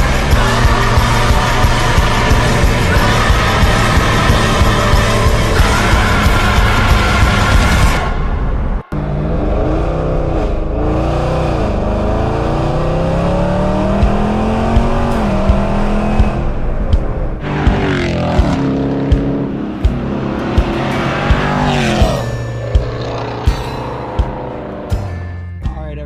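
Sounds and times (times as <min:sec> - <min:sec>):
car engine accelerating hard: 0:00.0 - 0:25.5.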